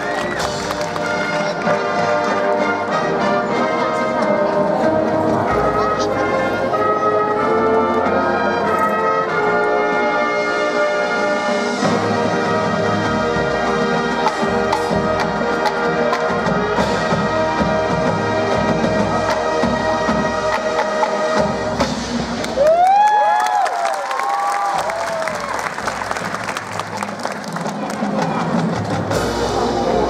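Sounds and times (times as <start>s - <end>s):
marching band sustained chords: 0.0s - 22.6s, 25.4s - 30.0s.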